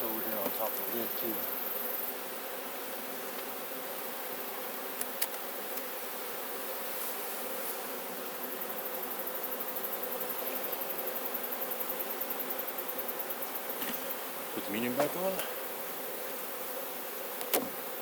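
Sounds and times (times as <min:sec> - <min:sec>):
honeybees humming: 0:00.0 - 0:18.0.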